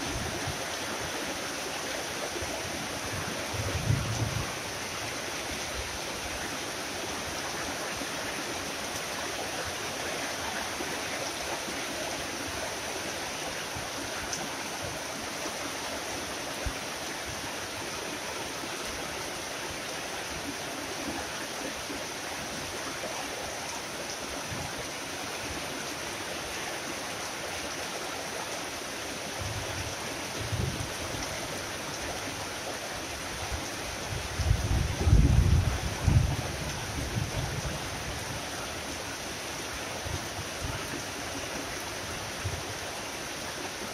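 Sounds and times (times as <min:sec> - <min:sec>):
rain falling steadily: 0:00.0 - 0:43.9.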